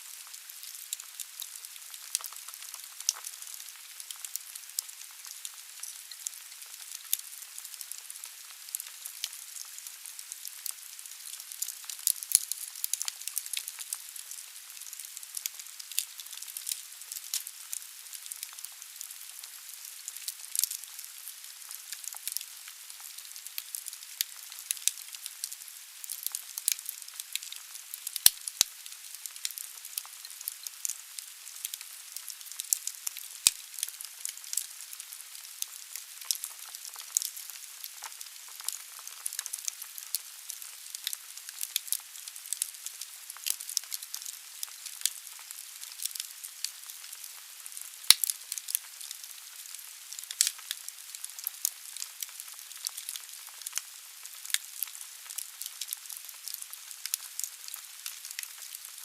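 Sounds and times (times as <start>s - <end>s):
wood fire crackling: 0.1s - 47.1s, 47.7s - 59.0s.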